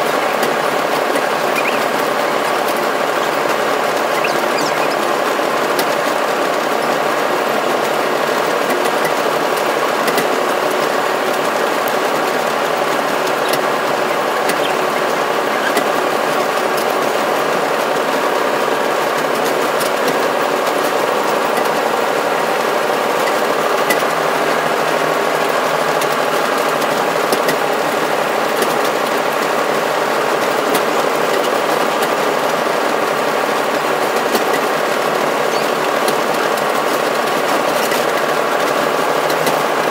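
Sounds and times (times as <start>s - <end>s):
locomotive running: 0.0s - 39.9s.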